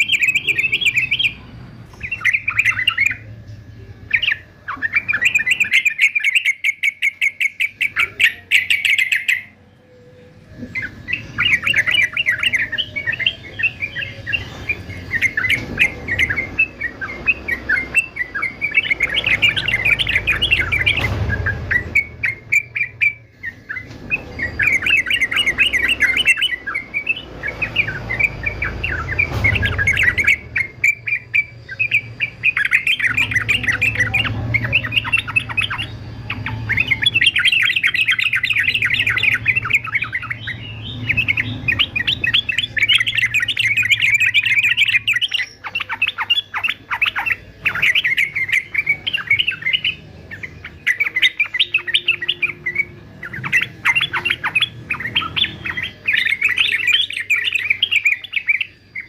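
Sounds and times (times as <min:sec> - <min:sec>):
bird chattering song: 0:00.0 - 0:59.0.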